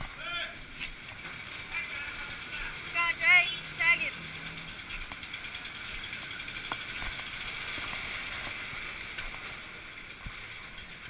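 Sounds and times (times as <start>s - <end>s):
bicycle rushing on wet street: 0.0s - 11.0s.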